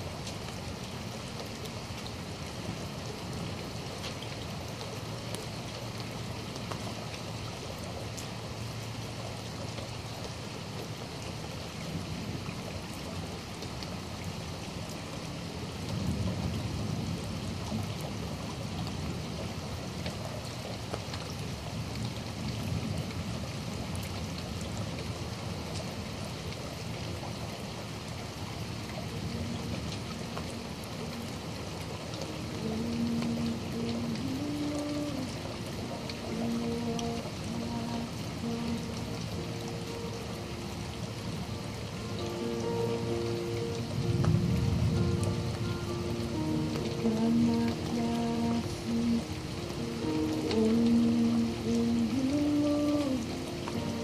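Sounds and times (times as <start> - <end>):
raindrops ticking: 0.0 - 54.0
steady rain: 0.0 - 54.0.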